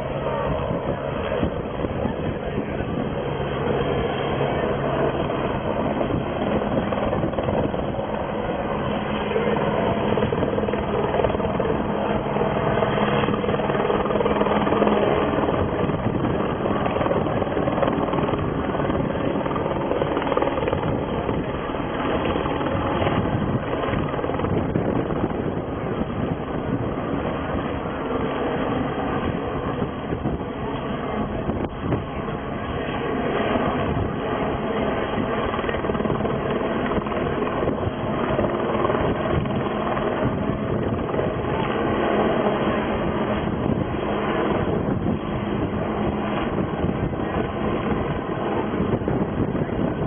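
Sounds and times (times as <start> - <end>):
helicopter hovering overhead: 0.0 - 50.0.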